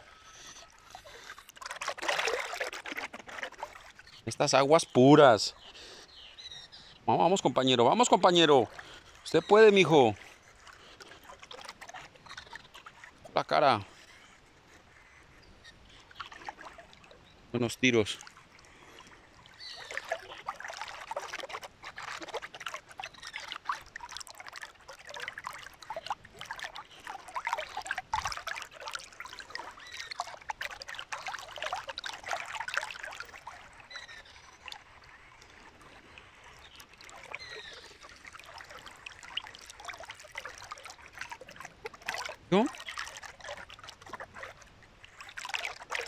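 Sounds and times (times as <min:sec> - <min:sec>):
river water gurgling and lapping: 0:00.0 - 0:46.0.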